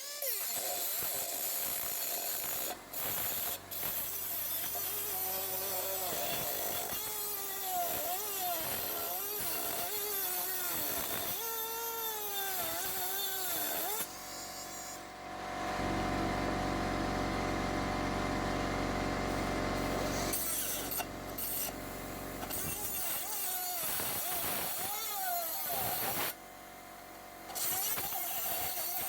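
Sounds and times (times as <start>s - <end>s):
air die grinder whining: 0.0s - 26.5s, 27.3s - 29.0s
steady motor running: 1.0s - 29.0s.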